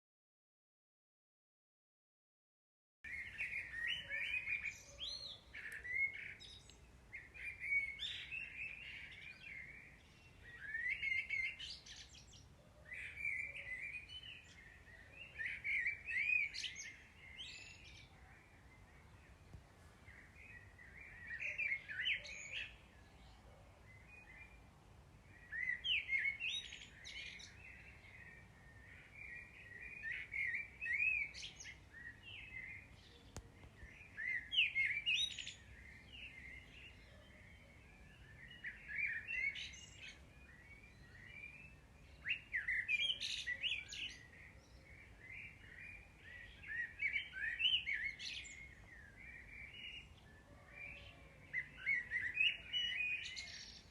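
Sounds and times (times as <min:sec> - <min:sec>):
songbird chirping and twittering: 0:03.1 - 0:53.9.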